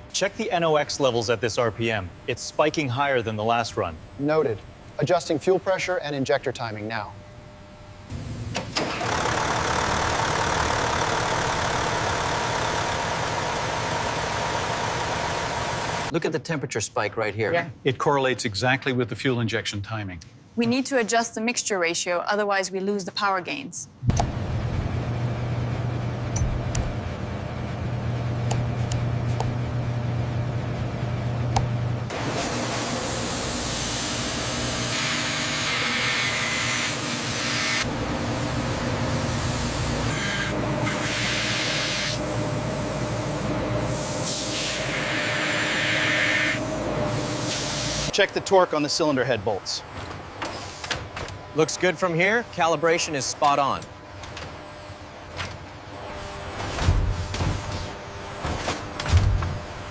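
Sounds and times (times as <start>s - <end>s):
factory machinery humming: 0.0s - 16.1s, 24.0s - 59.9s.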